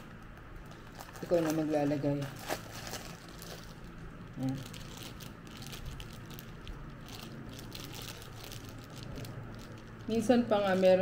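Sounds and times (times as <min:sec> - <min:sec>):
plastic bag crinkling: 0:00.6 - 0:11.0.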